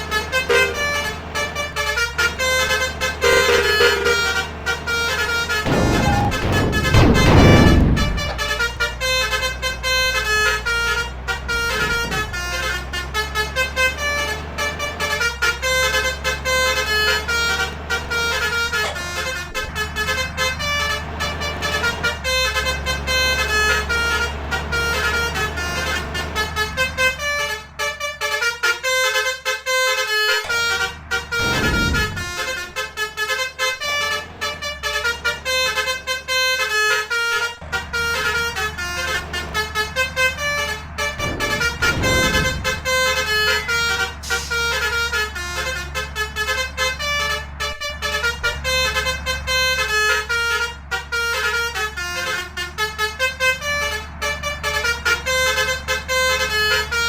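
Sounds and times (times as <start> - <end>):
low engine rumble: 0.0 - 57.0
musical vehicle horns playing tune: 0.0 - 57.0.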